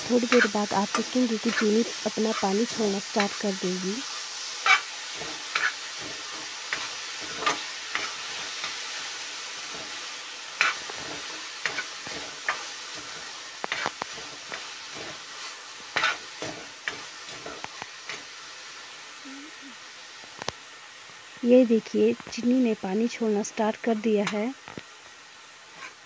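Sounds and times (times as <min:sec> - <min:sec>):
frying sizzle: 0:00.0 - 0:26.0.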